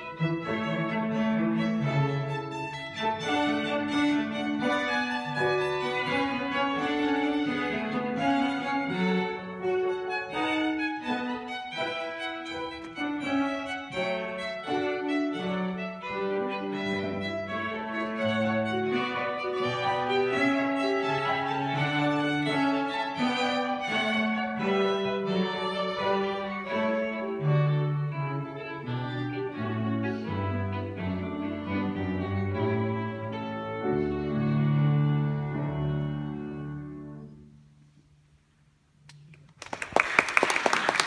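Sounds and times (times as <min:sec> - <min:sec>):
cello low sustained notes: 0:00.0 - 0:37.6
violin melody: 0:00.0 - 0:37.7
piano: 0:00.0 - 0:39.2.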